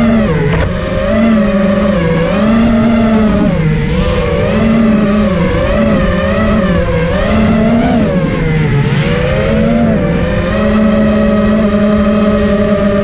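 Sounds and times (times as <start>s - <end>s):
quadcopter motors whining: 0.0s - 13.0s
wind rumble on microphone: 0.0s - 13.0s.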